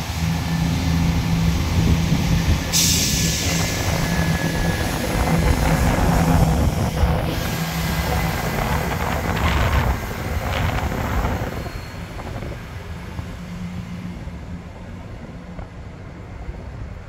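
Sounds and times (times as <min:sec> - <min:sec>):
diesel train rumbling: 0:00.0 - 0:17.0.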